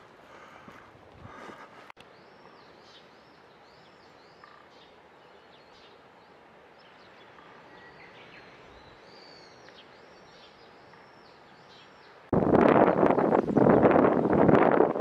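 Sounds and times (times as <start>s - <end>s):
faint outdoor background hiss: 0.0s - 15.0s
small birds calling: 0.3s - 14.2s.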